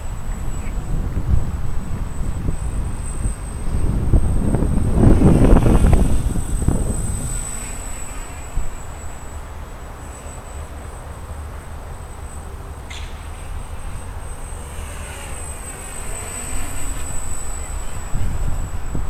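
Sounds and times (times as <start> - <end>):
wind on microphone: 0.0 - 9.8, 13.1 - 19.0
quadcopter motors whining: 0.0 - 19.0.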